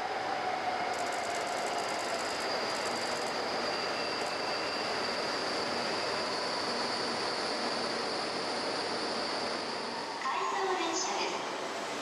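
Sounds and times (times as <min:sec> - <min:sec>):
high train whine: 0:00.0 - 0:12.0
train running noise: 0:00.0 - 0:12.0.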